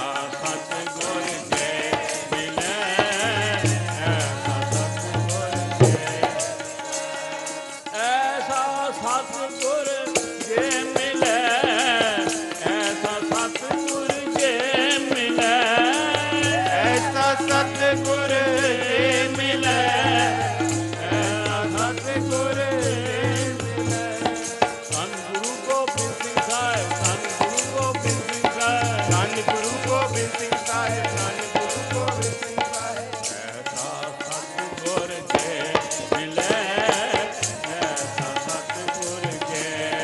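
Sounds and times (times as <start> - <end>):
harmonium: 0.0 - 40.0
tabla: 0.0 - 40.0
voices singing: 0.0 - 40.0.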